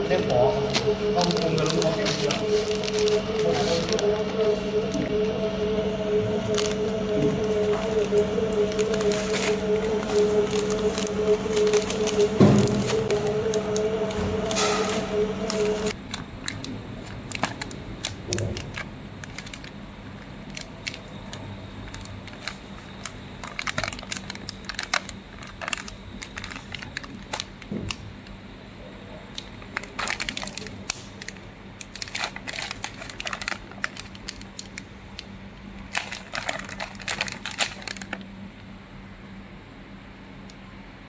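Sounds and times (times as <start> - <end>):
low hum: 0.0 - 41.0
foil pouch crinkling: 0.7 - 4.2, 7.4 - 28.2, 29.4 - 38.3.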